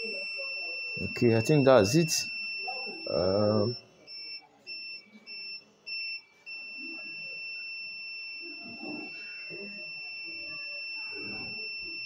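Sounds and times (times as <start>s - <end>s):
meter buzzer beeping: 0.0s - 12.0s
steady buzzer tone: 0.0s - 12.0s.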